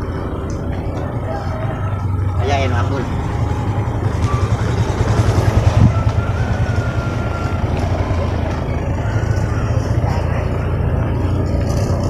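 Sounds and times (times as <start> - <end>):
engines rumbling: 0.0 - 12.0.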